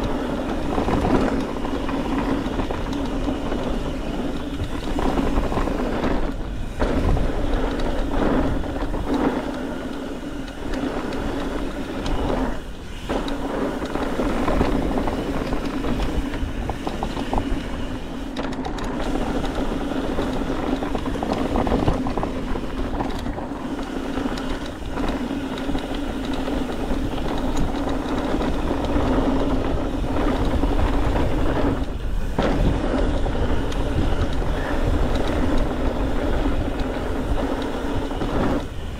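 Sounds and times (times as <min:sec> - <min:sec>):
bike rattling over bumps: 0:00.0 - 0:38.9
tyres rolling over dirt and gravel: 0:00.0 - 0:38.9
wind buffeting microphone: 0:00.0 - 0:38.9.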